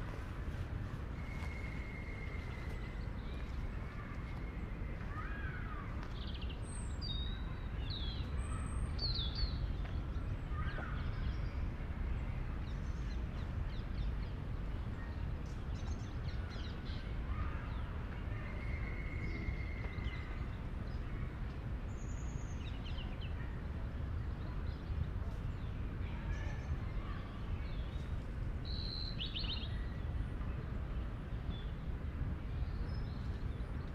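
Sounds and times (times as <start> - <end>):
distant city traffic rumble: 0.0 - 33.9.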